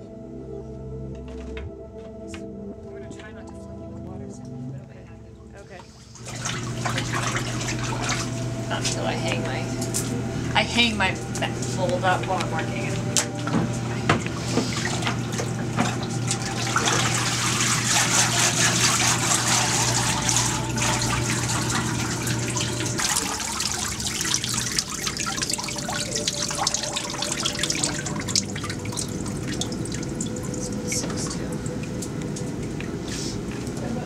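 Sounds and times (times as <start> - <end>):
water dripping and trickling: 5.7 - 33.9
water sloshing in a vat: 5.8 - 33.6.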